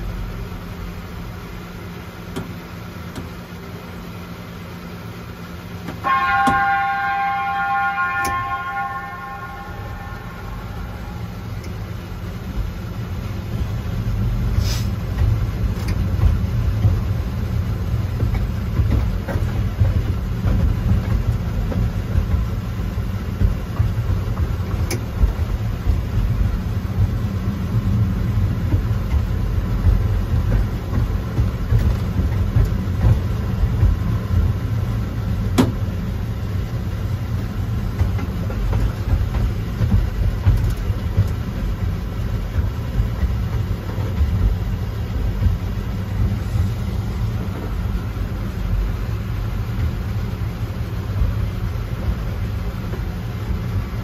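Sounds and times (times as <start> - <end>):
mini train rumbling: 0.0 - 54.0.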